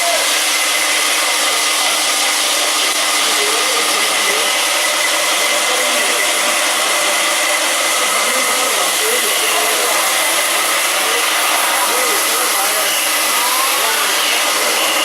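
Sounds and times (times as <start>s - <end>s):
stone-working machinery running: 0.0s - 15.0s.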